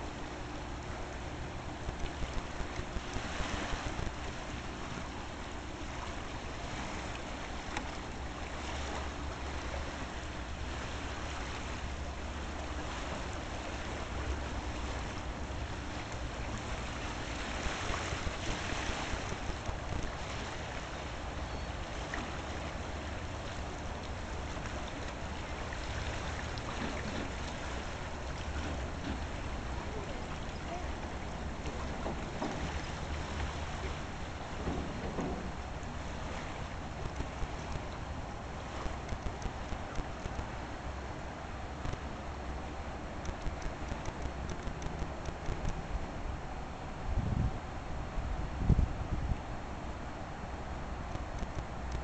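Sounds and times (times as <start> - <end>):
water rushing over a weir: 0.0 - 52.0.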